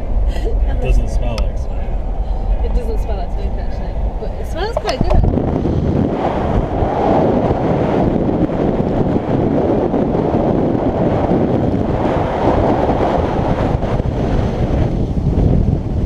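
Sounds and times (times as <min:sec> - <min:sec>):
vehicle road noise: 0:00.0 - 0:16.0
wind buffeting microphone: 0:00.0 - 0:16.0.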